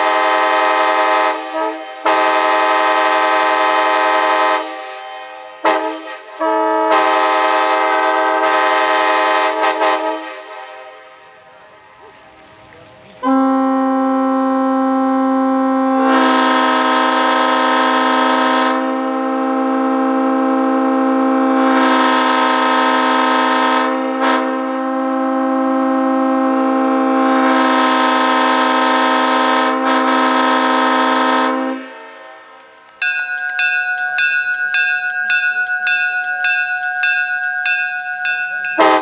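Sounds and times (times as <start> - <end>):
locomotive air horn chord: 0.0 - 32.8, 38.8 - 39.0.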